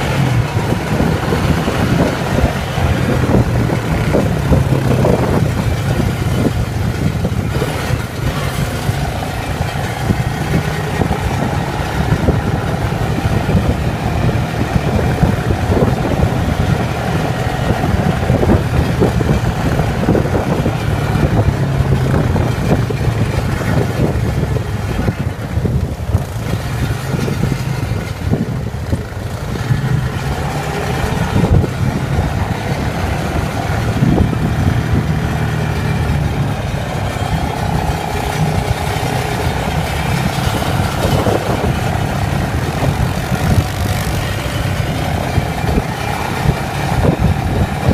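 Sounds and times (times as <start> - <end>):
quad bike engine running: 0.0 - 47.9.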